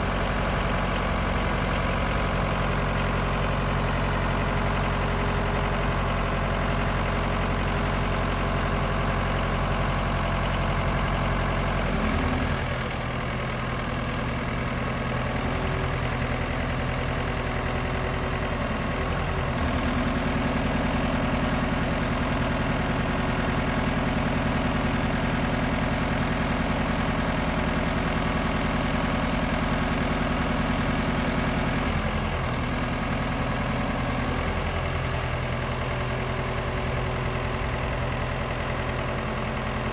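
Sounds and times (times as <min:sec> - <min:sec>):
forklift diesel engine running: 0:00.0 - 0:39.9.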